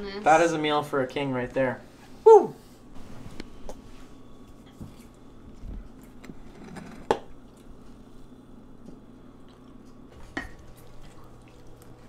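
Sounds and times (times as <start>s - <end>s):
indoor room hum: 0.0s - 12.0s.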